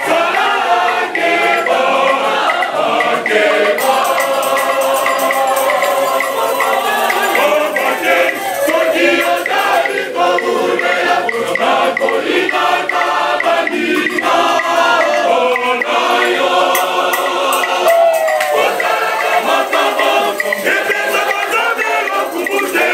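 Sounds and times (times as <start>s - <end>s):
church choir singing: 0.0s - 22.9s
light ticking beat: 0.0s - 22.9s.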